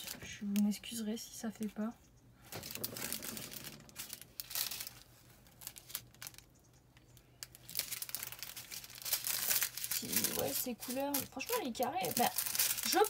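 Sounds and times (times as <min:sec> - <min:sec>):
plastic bags crinkling: 0:00.0 - 0:01.0, 0:02.5 - 0:13.0.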